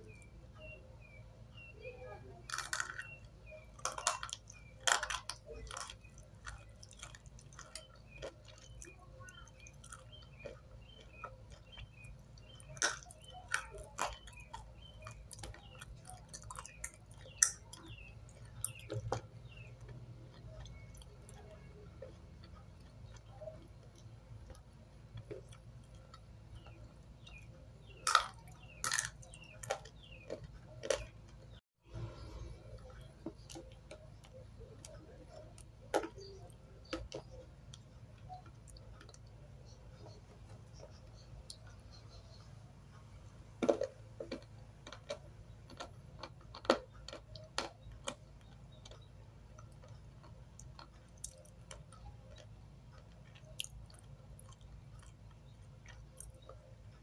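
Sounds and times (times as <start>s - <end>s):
chewing crunchy chalk: 2.5s - 41.8s, 43.6s - 56.6s.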